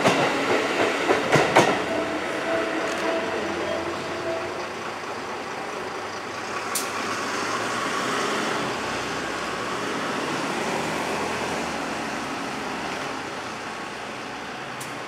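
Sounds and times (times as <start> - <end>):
road traffic noise: 0.0 - 15.0
bus engine pulling away: 2.8 - 15.0.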